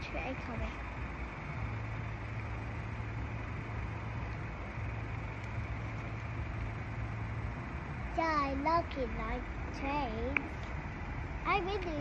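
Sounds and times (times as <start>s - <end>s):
outdoor traffic noise: 0.0s - 12.0s
vehicle engines idling: 0.0s - 12.0s.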